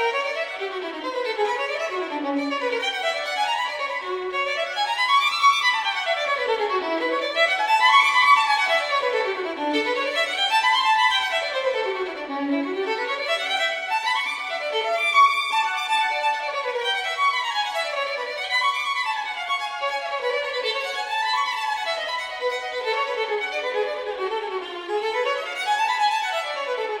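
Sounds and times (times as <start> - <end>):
violin playing quick runs: 0.0 - 27.0.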